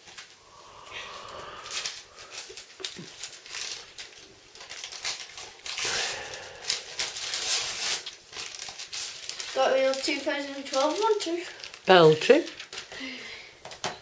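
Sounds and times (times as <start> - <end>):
plastic wrapping crinkling: 1.6 - 13.9.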